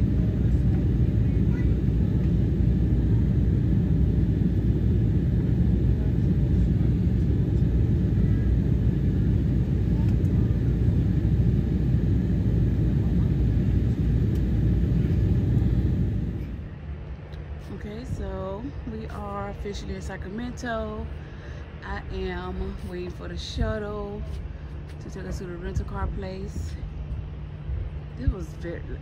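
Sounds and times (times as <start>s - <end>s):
airliner cabin rumble: 0.0s - 29.0s.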